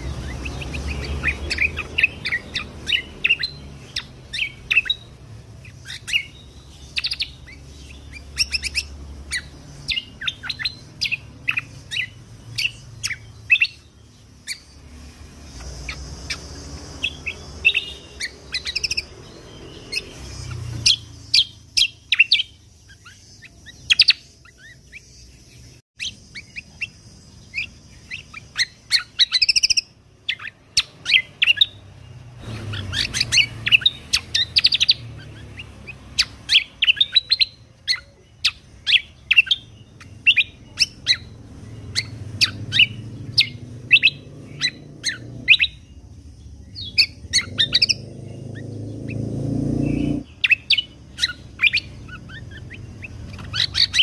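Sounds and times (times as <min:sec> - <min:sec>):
songbird rapid chirps and trills: 0:00.0 - 0:54.0.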